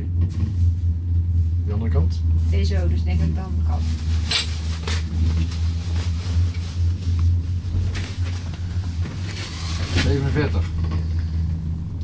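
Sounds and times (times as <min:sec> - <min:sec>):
gondola cabin droning rumble: 0:00.0 - 0:12.0
faint rustles: 0:00.2 - 0:11.8.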